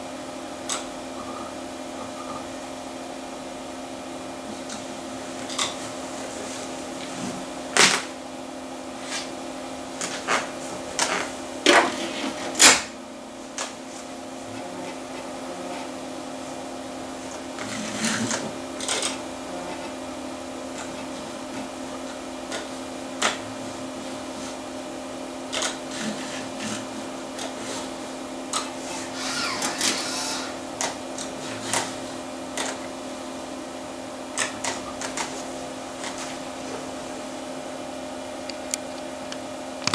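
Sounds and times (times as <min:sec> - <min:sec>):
computer hum: 0:00.0 - 0:11.7, 0:12.6 - 0:39.9
floppy drive whirring and clicking: 0:00.4 - 0:02.8, 0:04.2 - 0:39.9.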